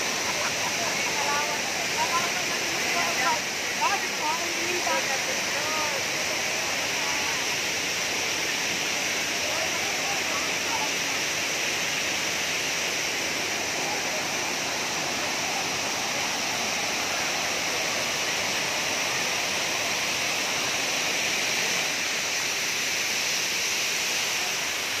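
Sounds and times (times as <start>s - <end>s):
fast river flowing: 0.0s - 25.0s
waterfall rushing: 0.0s - 25.0s.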